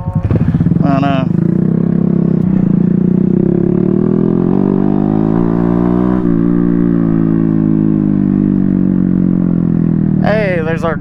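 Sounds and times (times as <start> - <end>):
small motorcycle engine: 0.0 - 11.0.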